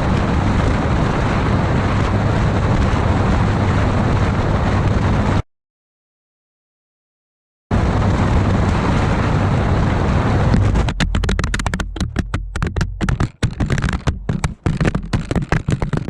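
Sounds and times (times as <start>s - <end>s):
wind and road rush: 0.0s - 5.4s, 7.7s - 16.0s.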